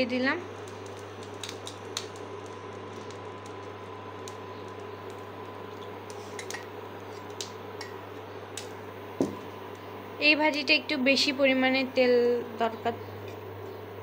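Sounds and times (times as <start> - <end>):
electric hum: 0.0 - 14.0.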